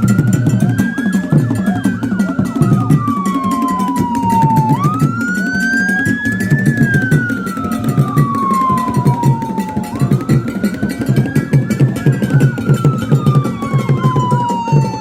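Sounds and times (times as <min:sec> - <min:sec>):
music with pulsing beat: 0:00.0 - 0:15.0
wailing siren: 0:00.0 - 0:15.0.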